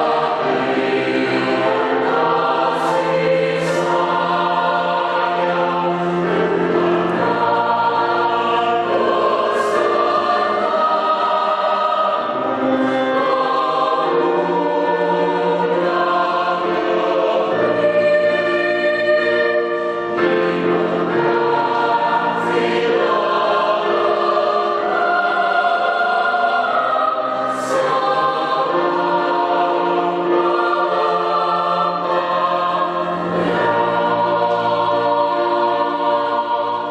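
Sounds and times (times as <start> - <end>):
choir singing a hymn: 0.0 - 36.9.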